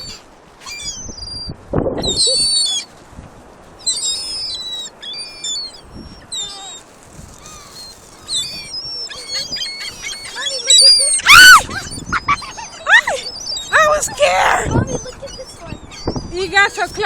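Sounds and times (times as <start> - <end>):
gulls calling: 0.0 - 2.9, 3.8 - 17.0.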